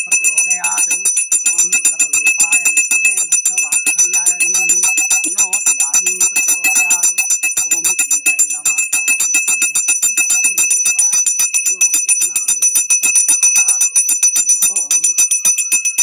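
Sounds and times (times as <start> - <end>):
brass hand bell rung rapidly: 0.0 - 16.0.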